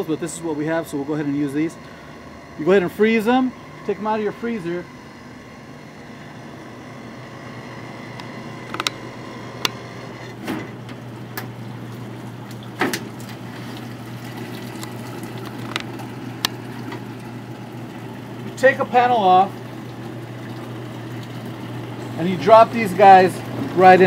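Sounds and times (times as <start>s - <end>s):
swamp cooler humming: 0.0s - 24.0s.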